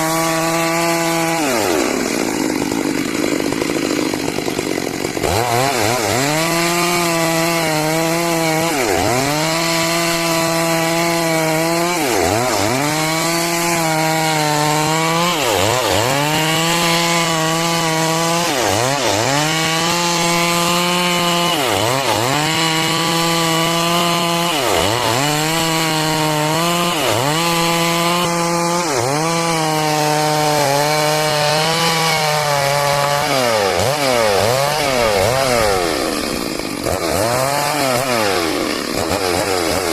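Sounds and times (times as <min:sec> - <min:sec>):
chainsaw ripping a log: 0:00.0 - 0:39.9.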